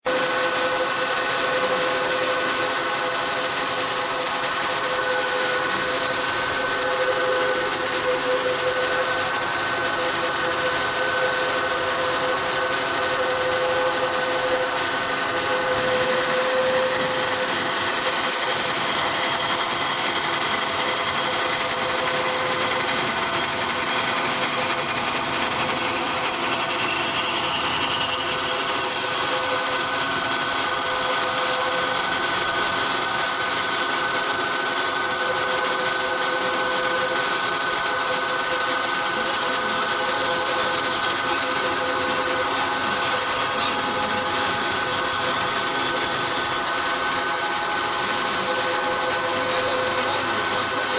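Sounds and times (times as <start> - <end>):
lathe machine hum: 0.0 - 50.9.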